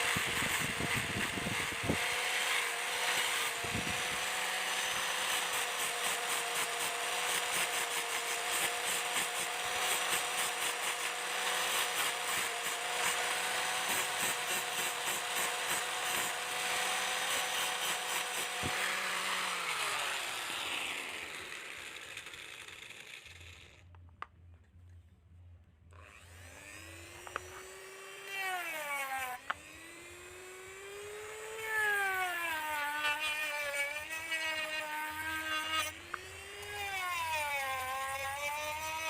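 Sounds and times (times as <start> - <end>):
small power tool motor running: 0.0 - 23.9, 25.9 - 39.0.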